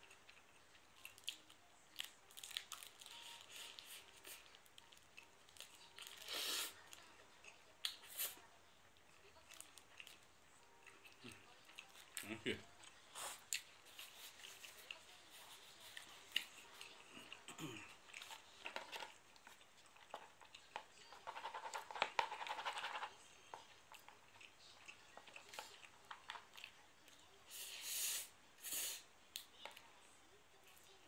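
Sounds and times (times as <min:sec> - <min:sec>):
quiet chewing: 0:00.0 - 0:31.0.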